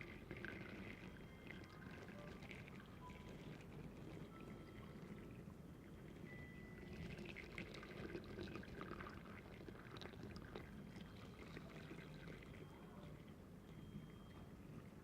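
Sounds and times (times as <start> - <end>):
liquid trickling: 0.0 - 15.0
low steady hum: 0.0 - 15.0.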